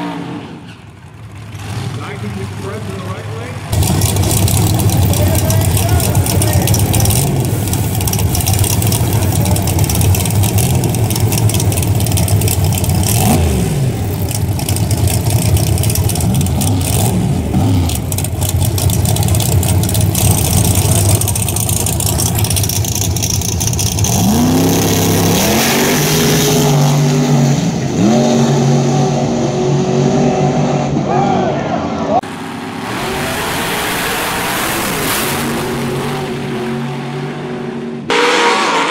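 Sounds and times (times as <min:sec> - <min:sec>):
race car engines revving: 0:00.0 - 0:38.9.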